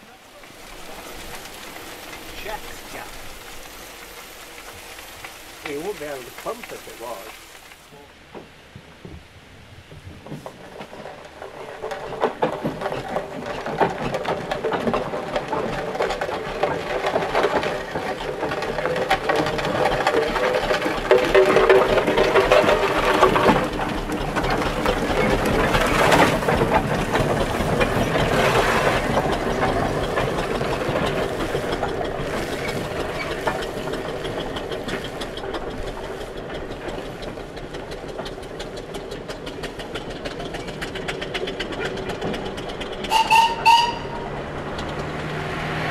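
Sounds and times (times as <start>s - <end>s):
steam traction engine running: 0.0s - 45.9s.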